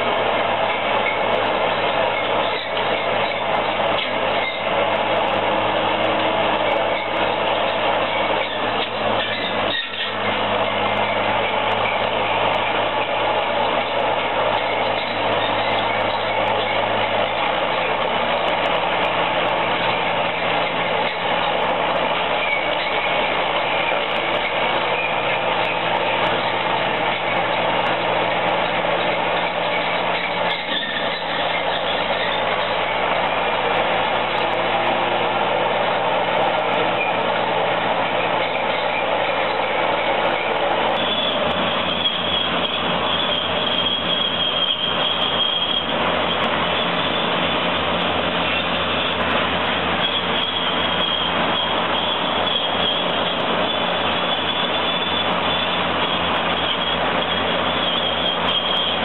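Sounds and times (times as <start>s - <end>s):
heavy machine engine running: 0.0s - 59.0s.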